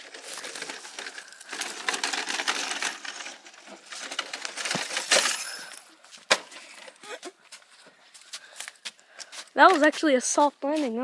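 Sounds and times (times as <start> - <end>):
tyres crunching over dirt: 0.0 - 11.0.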